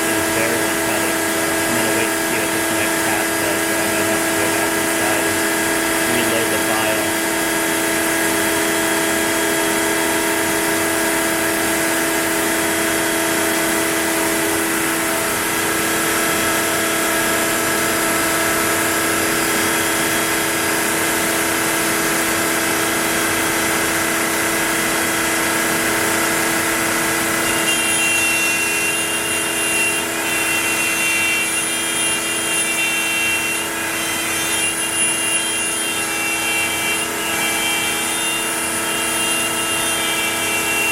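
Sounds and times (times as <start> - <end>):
router machine whine: 0.0 - 40.9.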